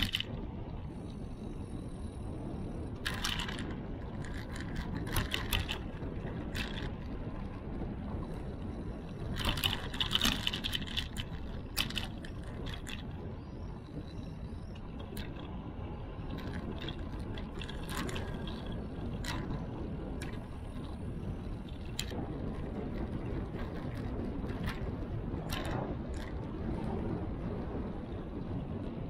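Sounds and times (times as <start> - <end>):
bicycle rattling over bumps: 0.0 - 29.0
wind and road rumble: 0.0 - 29.0.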